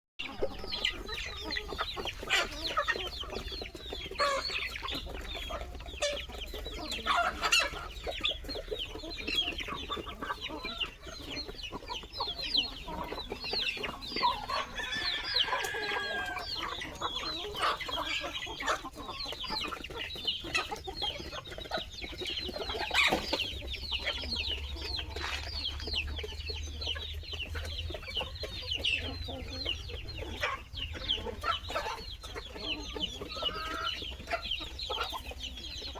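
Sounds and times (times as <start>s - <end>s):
chickens clucking: 0.2s - 35.9s.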